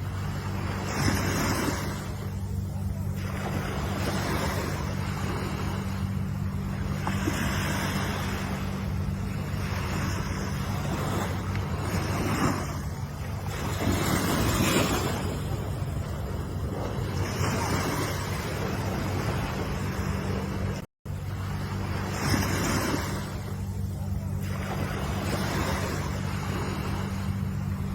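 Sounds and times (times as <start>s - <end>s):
ocean waves breaking: 0.0s - 27.9s
steady low hum: 0.0s - 27.9s.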